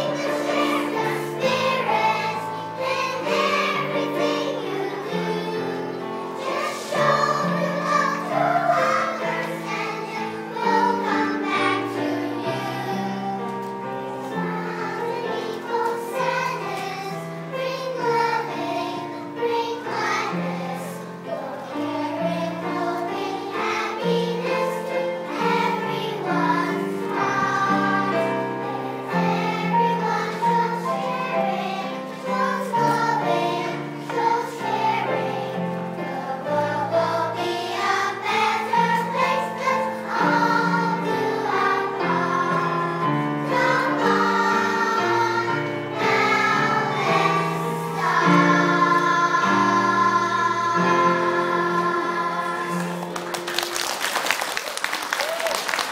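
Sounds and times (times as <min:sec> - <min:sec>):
children's choir singing: 0:00.0 - 0:54.5.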